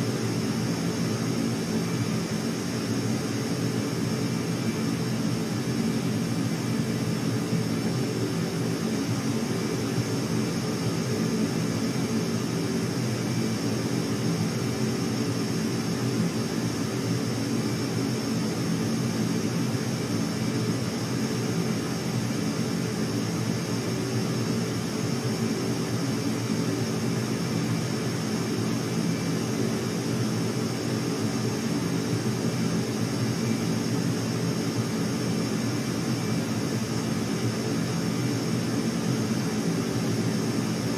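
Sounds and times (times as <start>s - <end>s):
aircraft engine drone: 0.0s - 40.9s
faint high whine: 0.0s - 40.9s.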